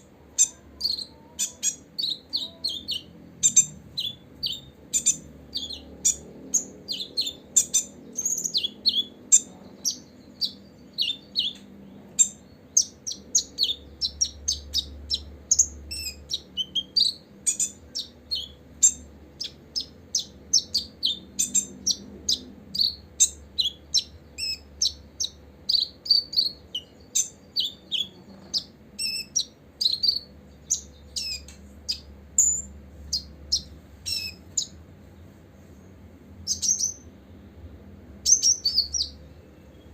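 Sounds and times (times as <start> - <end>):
sunbird chirping: 0.0 - 39.9.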